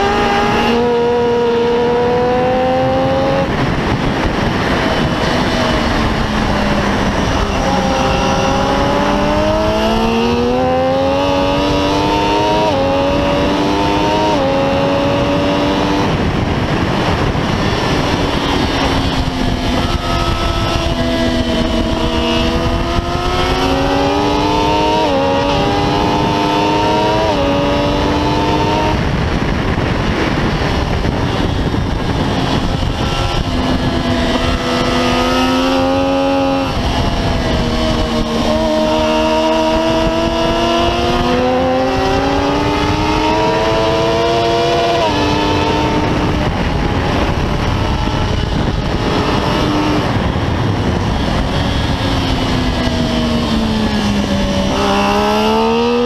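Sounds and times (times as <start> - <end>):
motorcycle engine upshifting: 0.0 - 56.0
wind rush: 0.0 - 56.0.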